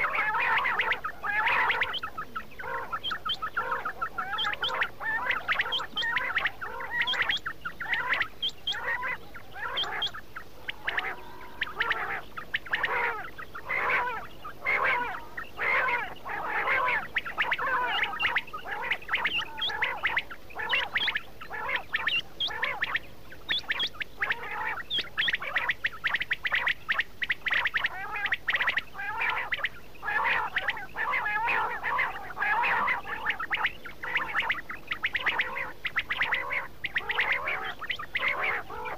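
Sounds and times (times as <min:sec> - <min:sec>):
flock of quail chirping: 0:00.0 - 0:38.9.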